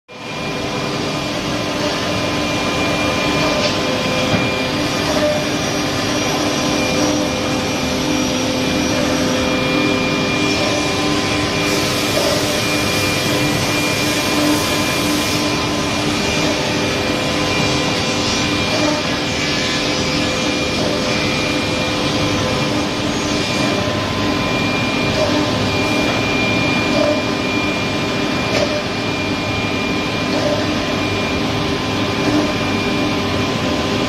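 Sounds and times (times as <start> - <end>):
cnc machine whining: 0.1 - 34.0.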